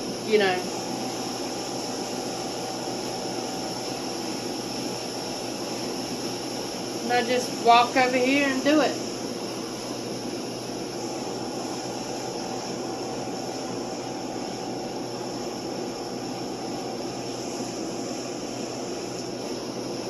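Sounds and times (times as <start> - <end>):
rushing hiss: 0.0 - 20.0.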